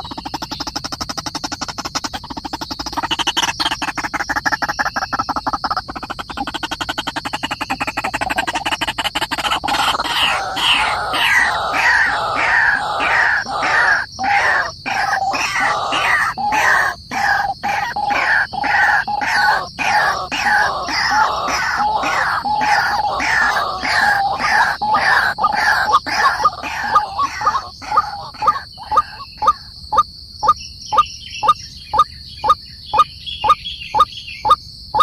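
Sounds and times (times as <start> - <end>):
bird rattling trill: 0.0 - 29.6.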